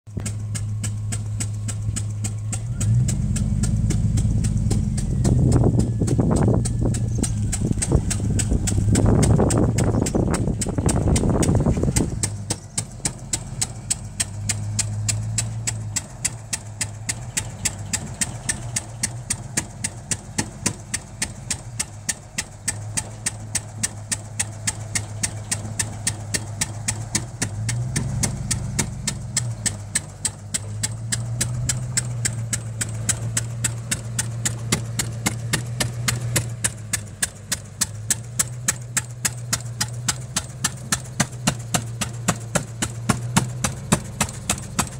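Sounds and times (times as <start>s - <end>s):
single-cylinder gas engine running: 0.1s - 44.9s.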